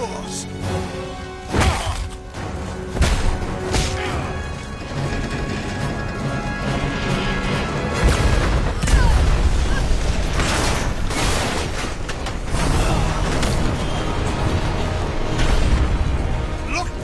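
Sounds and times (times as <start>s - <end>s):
dramatic film score: 0.0s - 17.0s.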